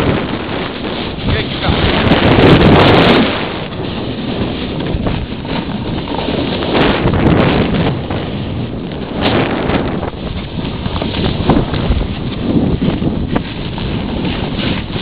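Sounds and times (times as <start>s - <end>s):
skis sliding over snow: 0.0s - 15.0s
wind buffeting microphone: 0.0s - 15.0s.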